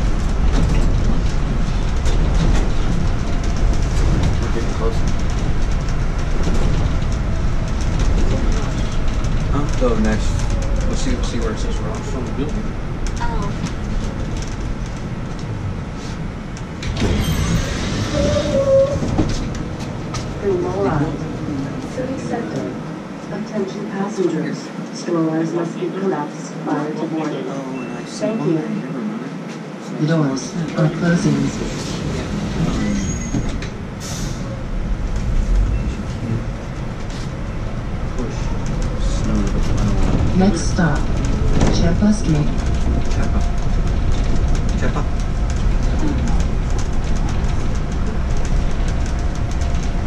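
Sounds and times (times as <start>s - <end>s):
low vehicle rumble: 0.0s - 23.2s, 31.6s - 50.0s.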